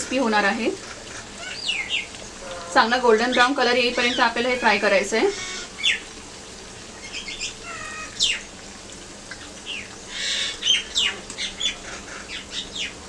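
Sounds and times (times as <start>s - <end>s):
birds chirping: 0.0s - 6.2s, 6.8s - 8.6s, 9.3s - 13.0s
bread deep-frying in oil: 0.0s - 13.0s.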